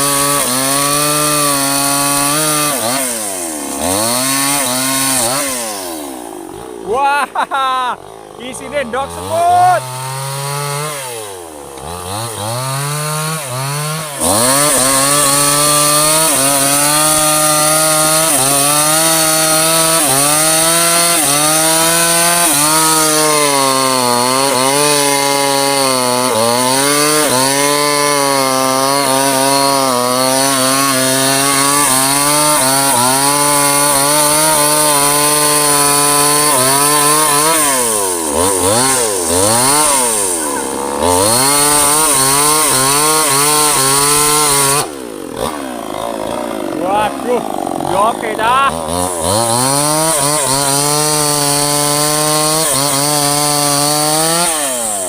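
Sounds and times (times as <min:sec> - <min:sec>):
chainsaw cutting wood: 0:00.0 - 0:55.0
chainsaw revving: 0:00.0 - 0:55.0.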